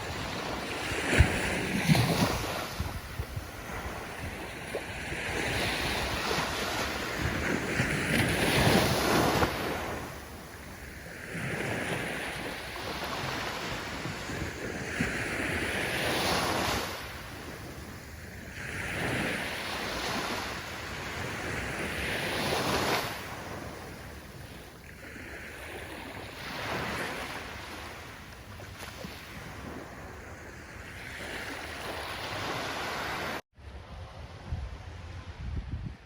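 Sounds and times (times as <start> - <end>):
ocean waves breaking on shore: 0.0 - 36.0.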